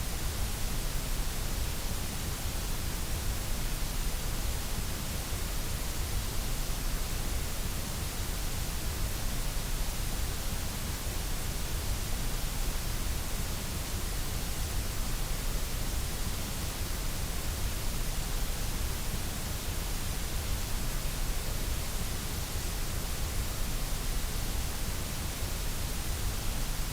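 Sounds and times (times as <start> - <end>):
white noise hiss: 0.0 - 26.9.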